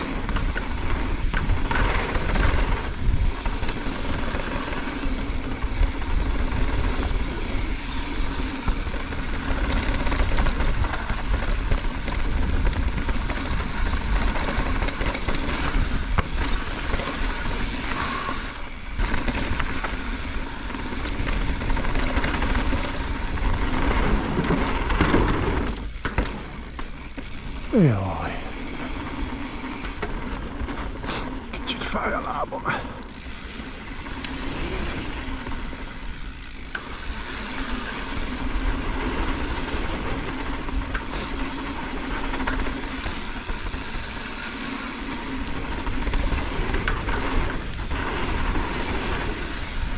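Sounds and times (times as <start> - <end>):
mountain bike tyre rumble: 0.0 - 49.9.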